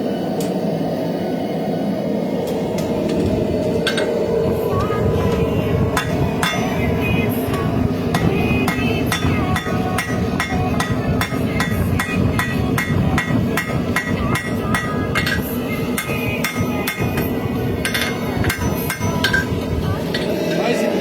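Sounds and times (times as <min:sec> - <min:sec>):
low rumble: 0:00.0 - 0:20.5
hammer blows on hot steel: 0:02.8 - 0:20.4.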